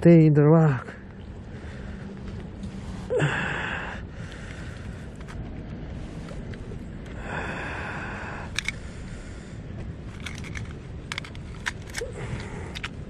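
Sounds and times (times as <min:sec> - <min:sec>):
low wind noise: 0:00.0 - 0:13.0.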